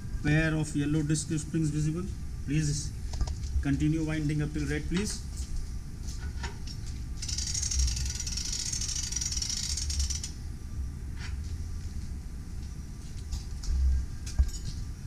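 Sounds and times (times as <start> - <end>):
steady low rumble: 0.0 - 7.3, 10.0 - 15.0.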